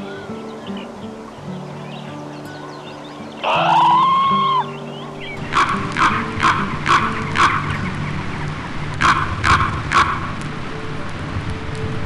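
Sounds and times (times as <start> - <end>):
harsh bird calls: 0.0 - 10.3.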